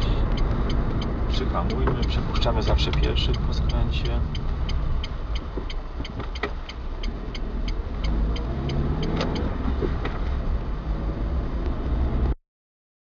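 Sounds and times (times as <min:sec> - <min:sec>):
car engine accelerating: 0:00.0 - 0:12.4
turn signal ticking: 0:00.0 - 0:12.4.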